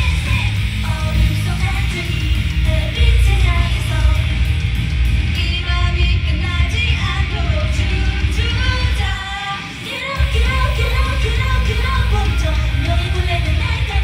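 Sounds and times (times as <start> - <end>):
live pop-rock song with singing: 0.0 - 14.0.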